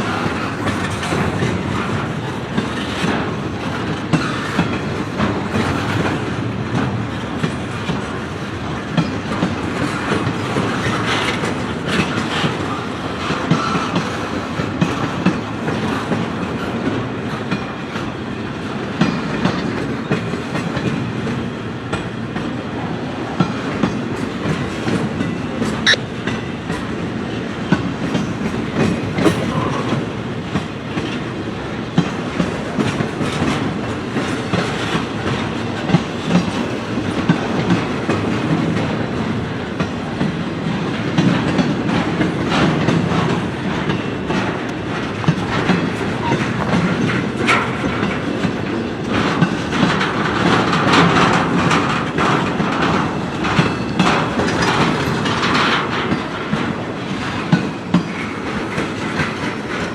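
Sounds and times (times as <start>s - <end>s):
wheels clicking over rail joints: 0.0s - 59.9s.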